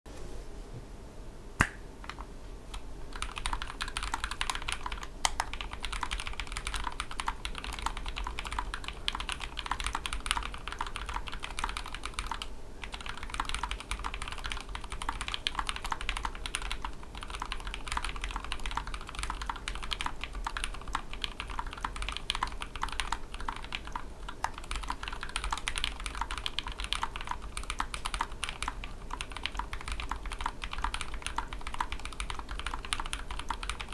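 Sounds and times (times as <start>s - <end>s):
low steady hum: 0.1s - 33.9s
mechanical keyboard typing: 2.1s - 33.9s.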